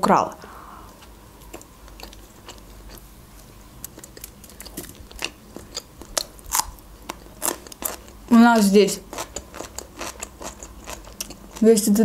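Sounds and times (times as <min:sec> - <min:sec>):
chewing with wet mouth clicks: 0:01.0 - 0:08.2, 0:09.1 - 0:11.6.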